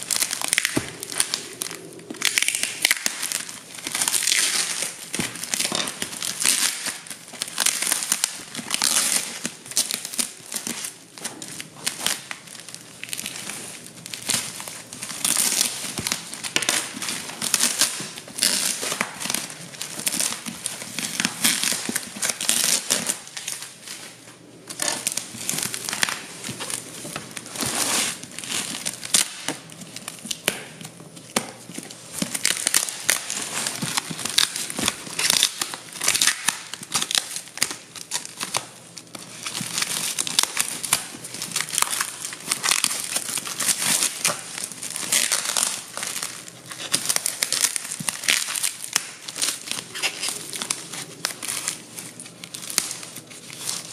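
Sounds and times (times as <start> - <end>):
packing tape peeling and tearing: 0.0 - 53.9.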